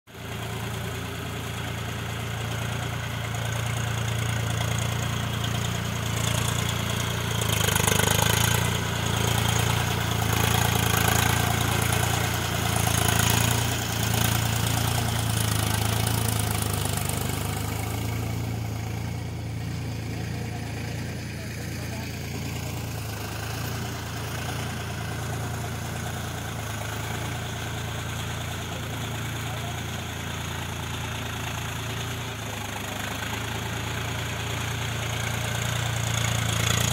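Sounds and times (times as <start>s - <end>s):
tractor diesel engine running: 0.1s - 36.9s.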